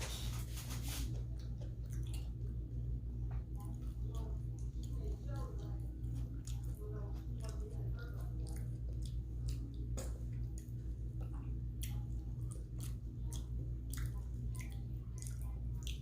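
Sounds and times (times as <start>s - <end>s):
chewing and wet mouth sounds: 0.0s - 16.0s
steady low hum: 0.0s - 16.0s.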